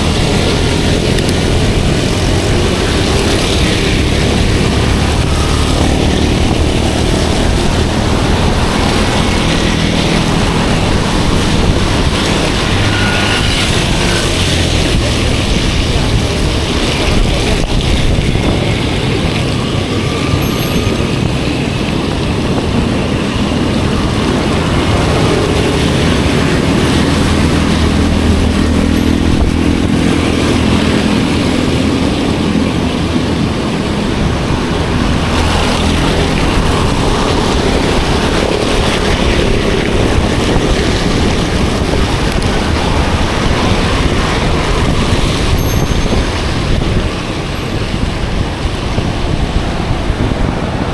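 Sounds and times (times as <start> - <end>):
vehicle engine hum passing: 0.0 - 50.9
wind and road noise: 0.0 - 50.9.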